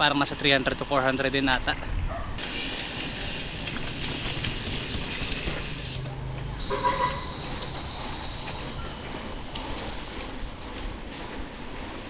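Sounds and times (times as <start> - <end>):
bike tyres rolling on pavement: 0.0 - 12.0.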